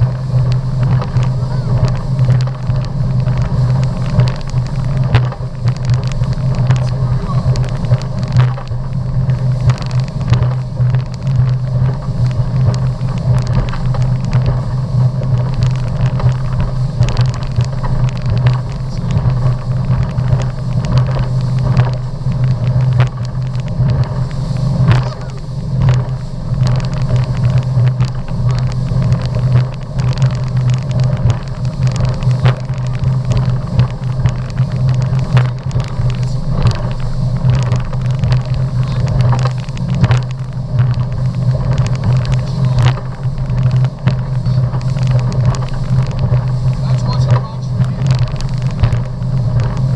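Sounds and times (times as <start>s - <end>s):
knocks and water splashes: 0.0s - 49.9s
motorboat engine drone: 0.0s - 49.9s.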